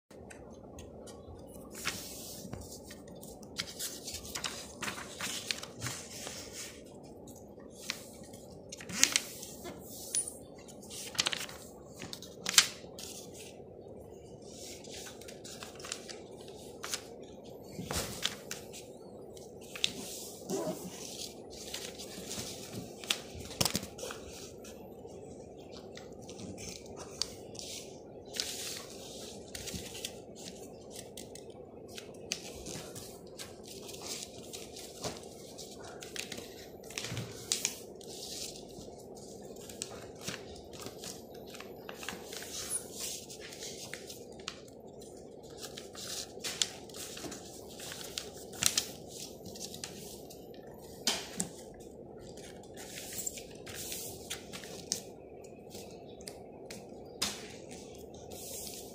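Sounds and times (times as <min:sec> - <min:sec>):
paper rustling and crinkling: 0:00.8 - 0:24.9, 0:25.6 - 0:58.9.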